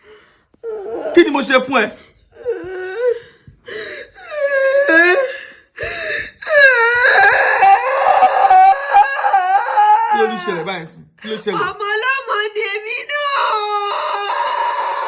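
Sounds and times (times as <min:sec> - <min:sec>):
woman wailing and crying: 0:02.3 - 0:15.0.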